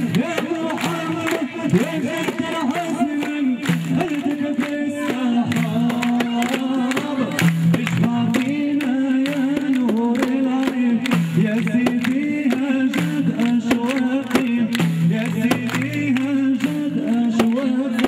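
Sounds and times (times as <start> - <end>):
frame drum beat: 0.0 - 18.0
man singing folk song: 0.0 - 18.0.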